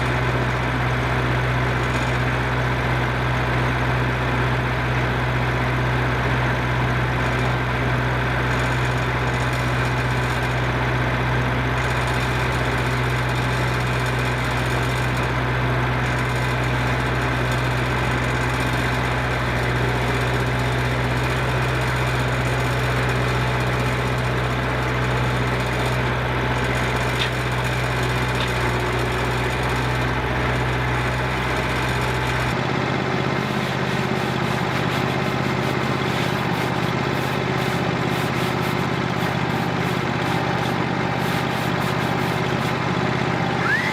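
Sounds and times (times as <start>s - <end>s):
engine humming steadily: 0.0s - 43.9s.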